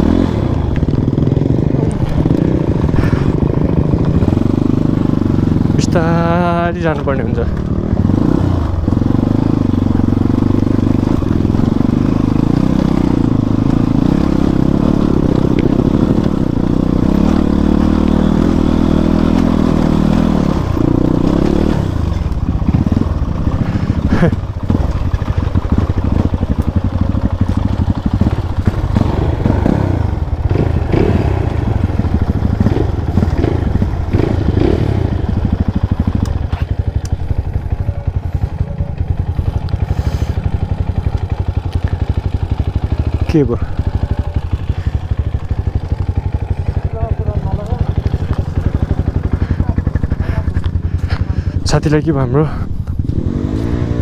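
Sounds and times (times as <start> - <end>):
motorcycle engine chugging: 0.0 - 54.0.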